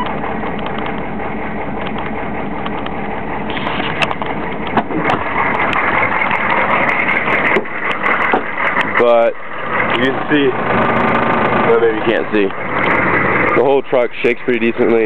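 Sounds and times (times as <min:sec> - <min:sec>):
diesel engine idling rough: 0:00.0 - 0:15.0.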